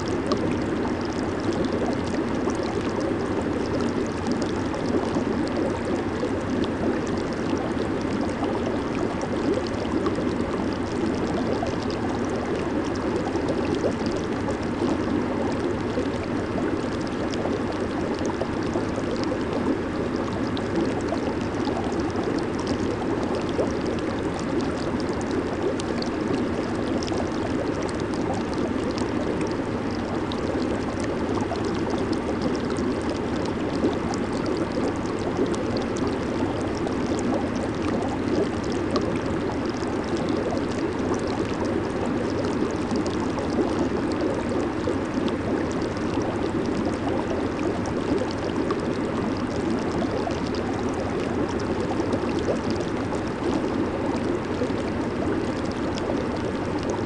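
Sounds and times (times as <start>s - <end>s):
jacuzzi water bubbling: 0.0s - 57.0s.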